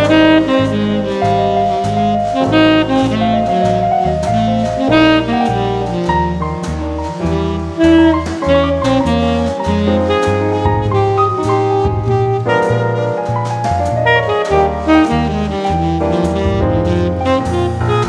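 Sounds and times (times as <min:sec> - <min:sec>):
jazz music: 0:00.0 - 0:18.0.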